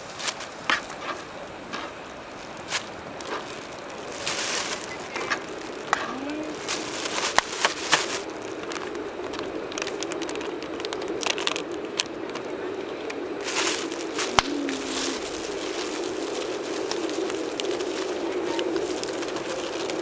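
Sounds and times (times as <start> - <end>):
burning wood popping: 0.0 - 20.0
campfire crackling: 0.0 - 20.0.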